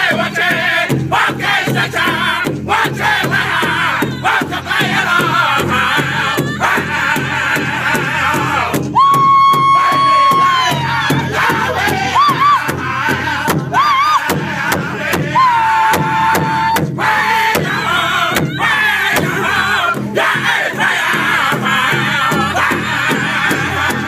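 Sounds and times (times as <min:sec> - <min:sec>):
group singing: 0:00.0 - 0:24.0
men striking large bass drum: 0:00.0 - 0:24.0.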